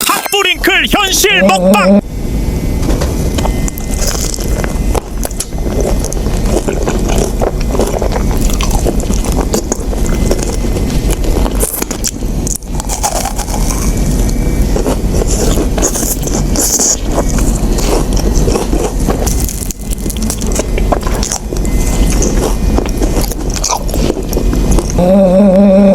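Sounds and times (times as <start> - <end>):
steady low rumble: 0.0 - 25.0
biting and chewing fried chicken: 3.4 - 25.0.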